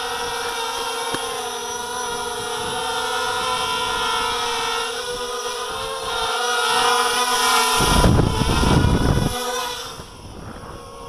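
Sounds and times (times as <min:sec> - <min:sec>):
quadcopter motors whining: 0:00.0 - 0:11.0
rush of prop wash and wind: 0:00.0 - 0:11.0.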